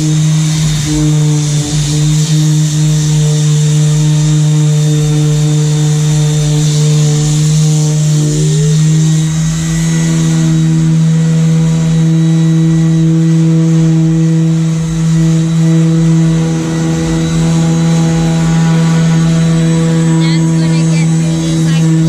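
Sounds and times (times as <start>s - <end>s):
electric disc sander running: 0.0s - 22.0s.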